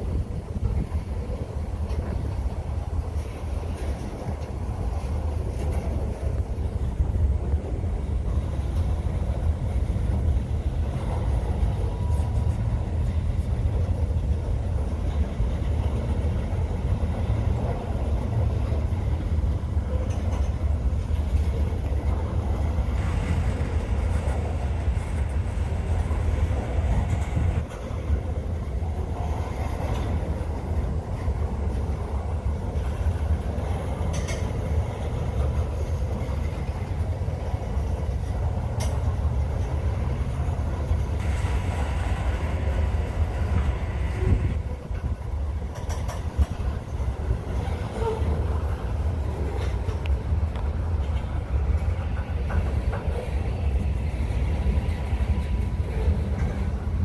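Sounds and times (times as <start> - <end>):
freight train rumbling past: 0.0 - 57.0
train wheels clicking: 0.0 - 57.0.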